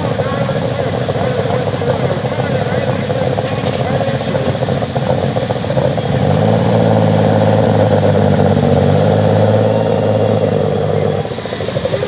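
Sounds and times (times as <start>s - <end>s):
tractor engine running loud: 0.0s - 12.0s.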